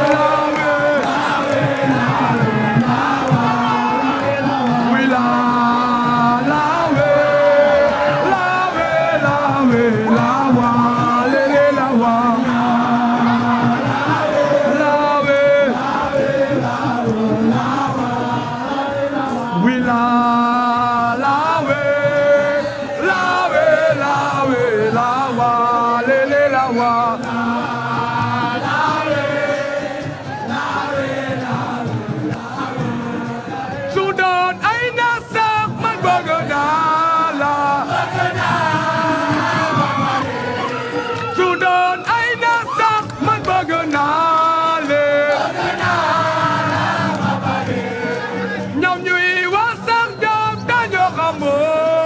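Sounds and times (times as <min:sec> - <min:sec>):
crowd singing a chant: 0:00.0 - 0:52.0
music: 0:00.0 - 0:52.0.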